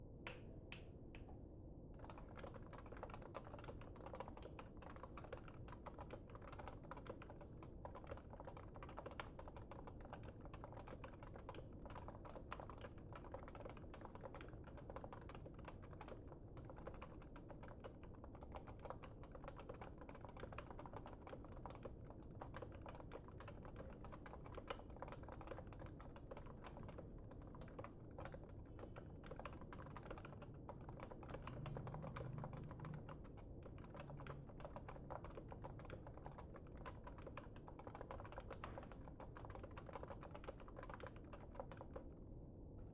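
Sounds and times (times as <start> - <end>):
rapid keyboard typing: 2.0 - 42.2.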